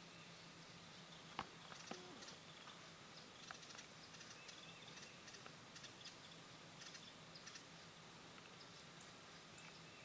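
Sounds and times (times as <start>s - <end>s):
light rain in woodland: 0.0s - 10.0s.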